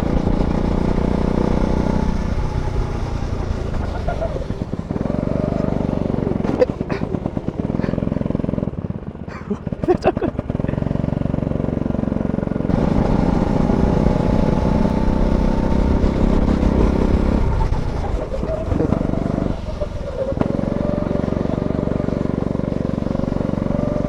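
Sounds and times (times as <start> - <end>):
go-kart engine running hard: 0.0 - 24.0.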